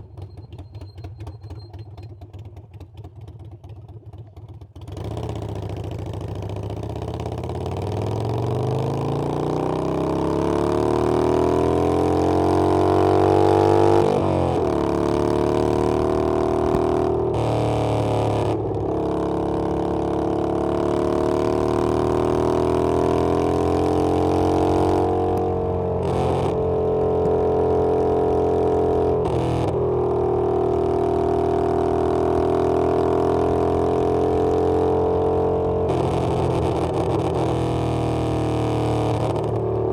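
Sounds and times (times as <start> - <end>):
motorcycle engine accelerating: 4.8 - 39.9.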